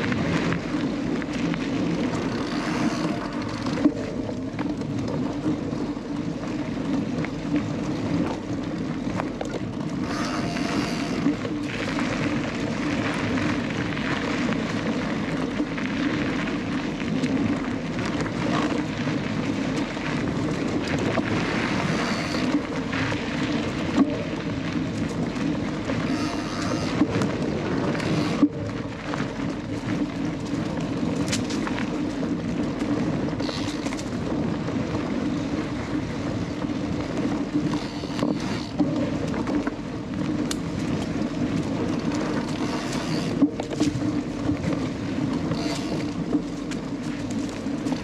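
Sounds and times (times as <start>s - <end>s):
bike clicks and rattles: 0.0s - 48.0s
tyres rushing on dirt trail: 0.0s - 48.0s
wind on microphone: 0.0s - 48.0s.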